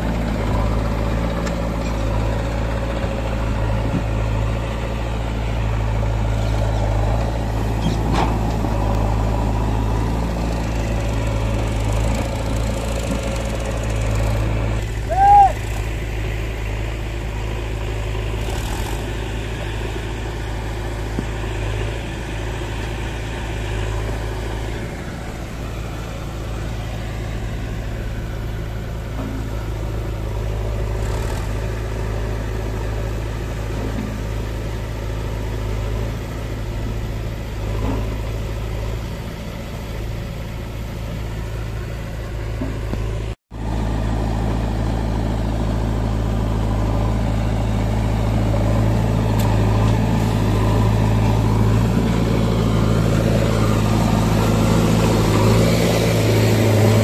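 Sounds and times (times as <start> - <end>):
backhoe loader engine: 0.0 - 57.0
tractor diesel engine running: 0.0 - 57.0.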